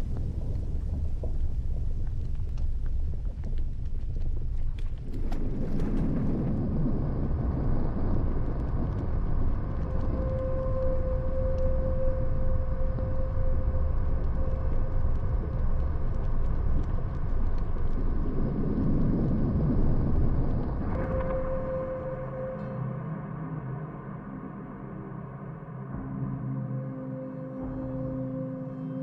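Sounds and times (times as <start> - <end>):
low rumbling drone: 0.0 - 29.0.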